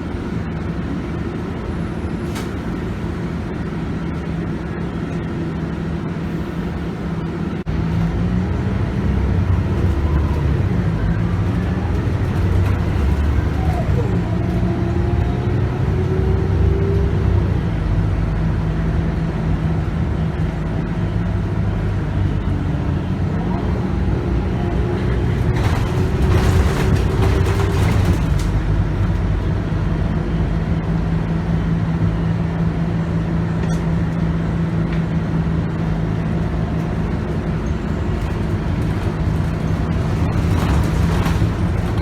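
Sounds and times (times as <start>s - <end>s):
bus diesel engine running: 0.0s - 42.0s.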